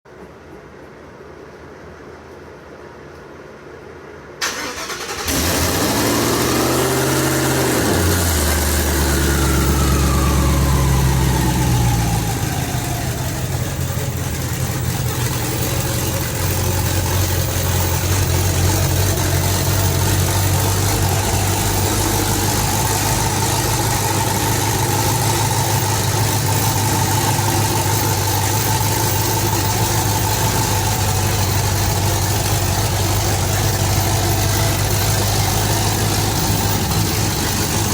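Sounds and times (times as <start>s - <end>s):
car engine starting and idling: 4.4s - 37.9s.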